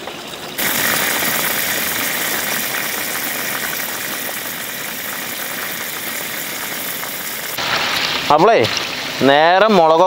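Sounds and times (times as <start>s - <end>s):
oil sizzling and crackling: 0.0s - 10.0s.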